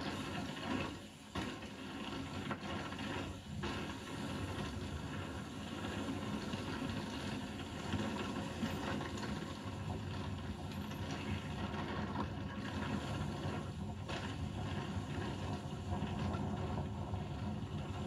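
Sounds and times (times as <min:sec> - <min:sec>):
bike ride rushing rumble and rattle: 0:00.0 - 0:18.0.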